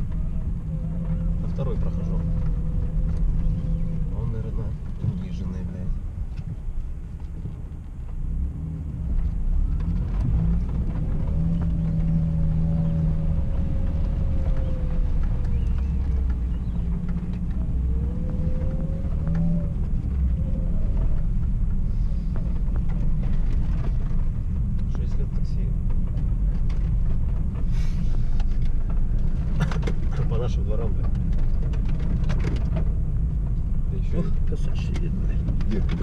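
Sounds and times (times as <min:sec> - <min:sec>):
car engine and tyre rumble: 0:00.0 - 0:36.0
faint engine whine: 0:00.0 - 0:36.0.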